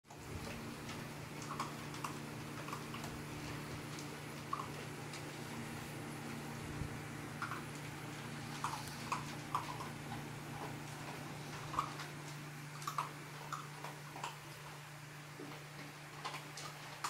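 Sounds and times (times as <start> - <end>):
animals crunching dry kibble: 0.1 - 17.0
steady low hum: 0.1 - 17.0.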